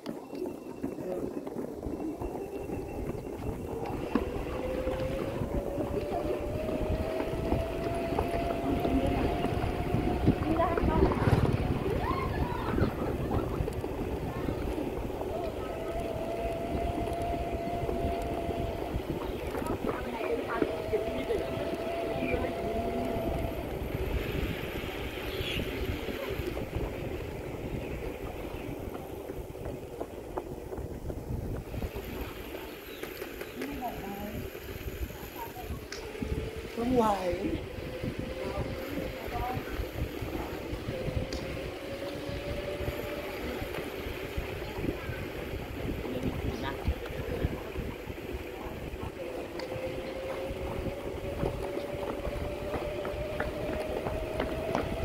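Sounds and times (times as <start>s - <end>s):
bicycle road rumble: 0.0s - 55.0s
wind buffeting microphone: 0.0s - 55.0s
steady rising whine: 0.3s - 29.8s, 31.6s - 55.0s.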